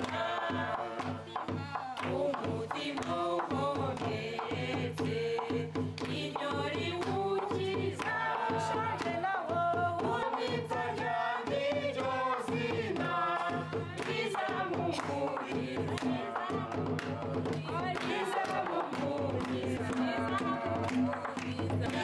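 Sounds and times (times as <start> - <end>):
group singing: 0.0 - 22.0
people clapping: 0.0 - 22.0.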